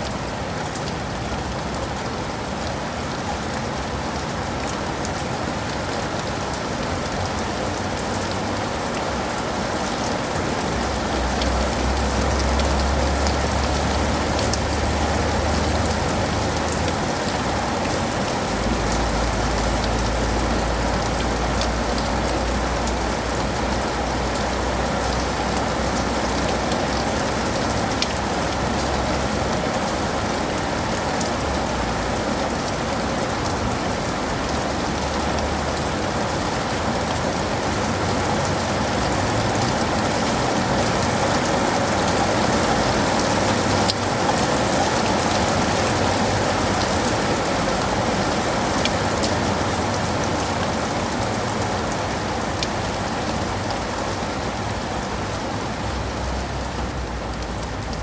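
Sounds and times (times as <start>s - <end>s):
raindrops ticking: 0.0s - 55.1s
rain on leaves and pavement: 0.0s - 58.0s.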